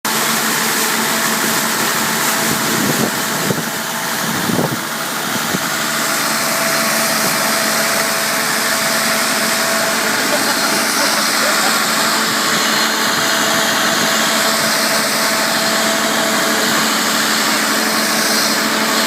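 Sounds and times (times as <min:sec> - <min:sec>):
diesel engine running: 0:00.1 - 0:19.0.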